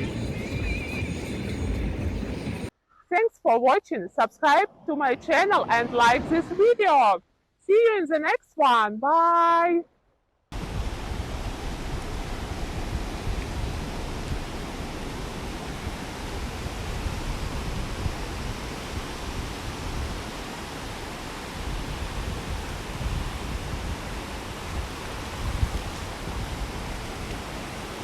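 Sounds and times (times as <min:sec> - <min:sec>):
surf rushing on beach: 0:00.0 - 0:02.7, 0:04.4 - 0:07.1, 0:10.5 - 0:28.0
wind gusts on microphone: 0:00.0 - 0:02.7, 0:04.4 - 0:07.2, 0:10.5 - 0:28.0.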